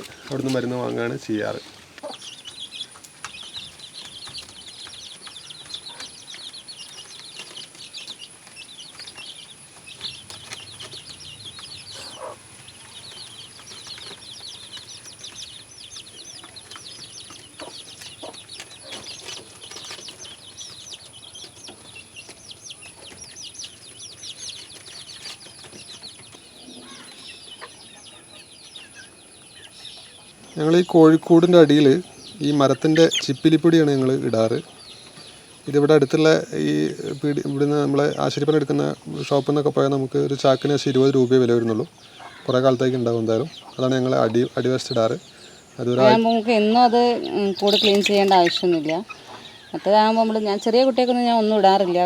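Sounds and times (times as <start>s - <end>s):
chicken clucking softly: 0.0s - 46.3s
chickens chirping and peeping: 0.0s - 52.0s.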